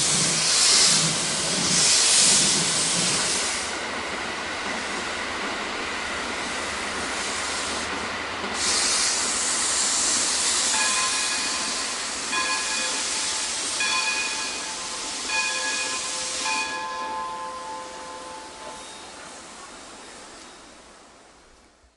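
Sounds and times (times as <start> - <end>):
steam locomotive hissing steam: 0.0 - 21.7.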